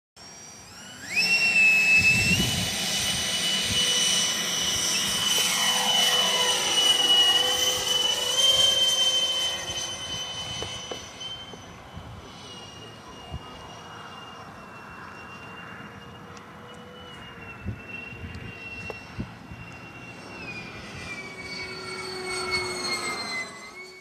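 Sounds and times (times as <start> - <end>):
model jet fans whining: 0.2 - 24.0.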